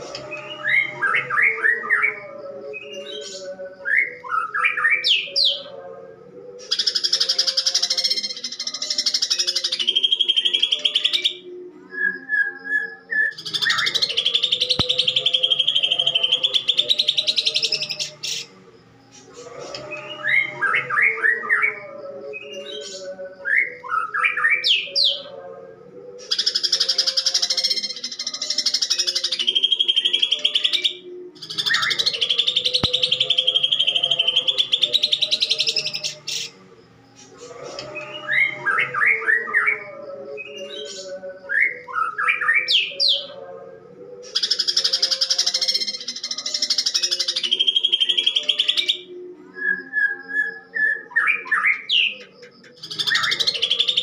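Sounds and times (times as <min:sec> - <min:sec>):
bird whistling and chattering: 0:06.6 - 0:11.4, 0:12.4 - 0:25.3, 0:26.2 - 0:43.4, 0:44.2 - 0:49.1, 0:49.7 - 0:54.0.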